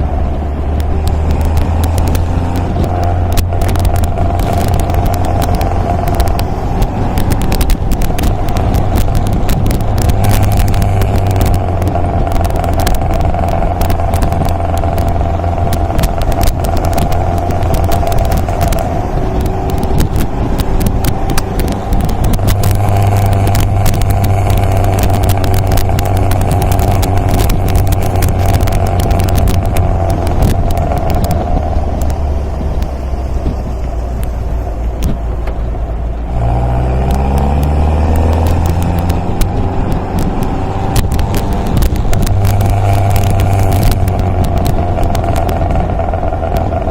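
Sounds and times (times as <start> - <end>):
car engine running: 0.0 - 46.9
wind buffeting microphone: 0.0 - 46.9.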